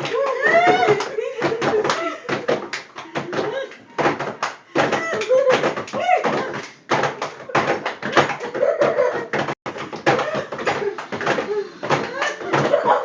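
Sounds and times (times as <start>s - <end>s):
knocks and thumps: 0.0s - 13.0s.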